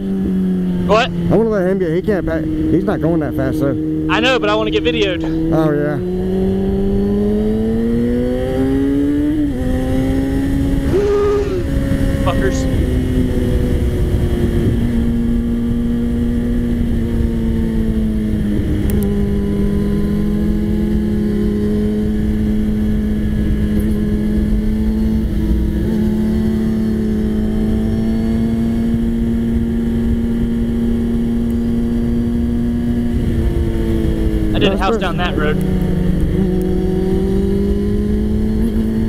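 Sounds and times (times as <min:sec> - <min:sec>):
motorcycle engine cruising: 0:00.0 - 0:39.0
wind rushing over microphone: 0:05.0 - 0:39.0.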